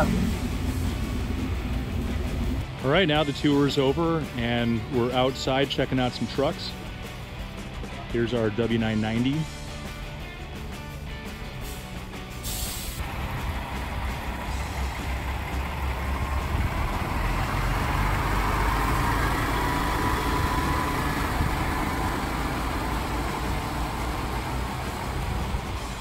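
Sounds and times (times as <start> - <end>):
diesel truck engine rumbling: 0.0 - 26.0.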